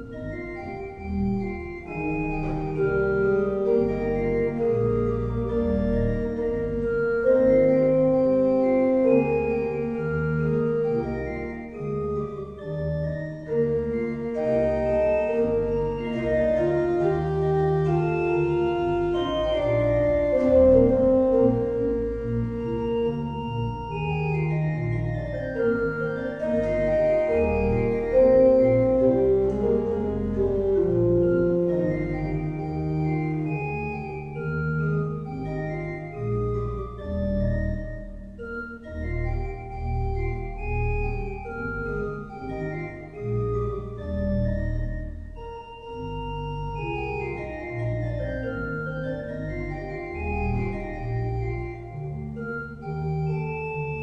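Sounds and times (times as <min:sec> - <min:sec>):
organ-like keyboard music: 0:00.0 - 0:54.0.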